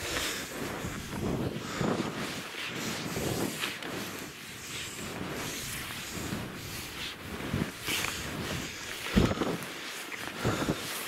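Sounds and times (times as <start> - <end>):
skis crunching in snow: 0.0 - 11.0.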